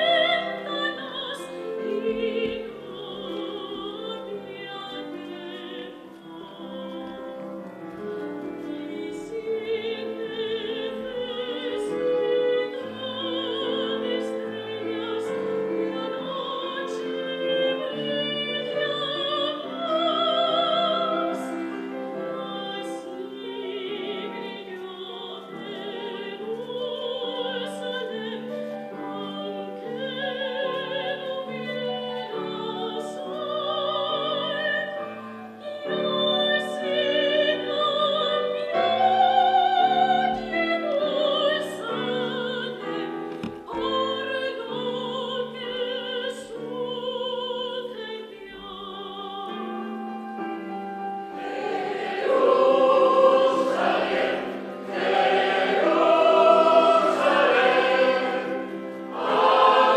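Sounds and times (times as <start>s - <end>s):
operatic soprano singing: 0.0s - 59.9s
piano accompaniment: 0.0s - 59.9s.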